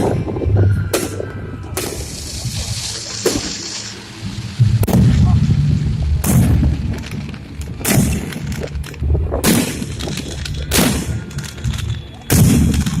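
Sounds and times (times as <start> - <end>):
fireworks bangs with echo: 0.0 - 13.0
small fireworks pops: 0.9 - 13.0.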